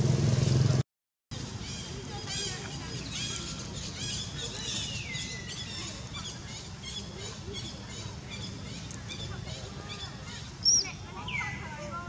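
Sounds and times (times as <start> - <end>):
birds chirping: 1.4 - 12.0.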